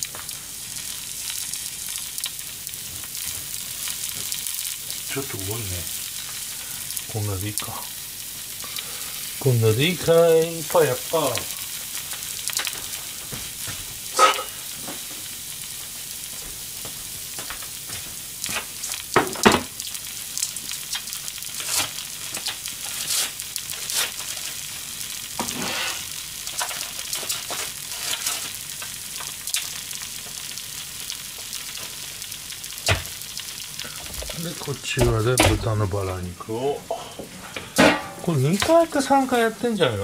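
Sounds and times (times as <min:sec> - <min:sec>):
batter sizzling in frying pan: 0:00.0 - 0:40.0.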